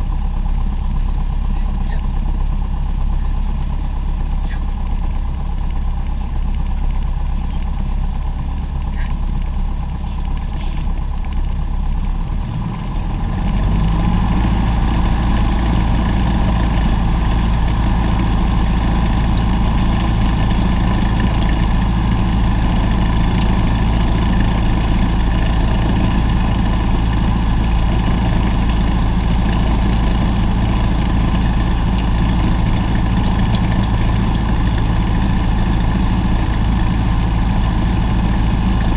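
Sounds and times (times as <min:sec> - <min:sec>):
aircraft engine running: 0:00.0 - 0:38.9.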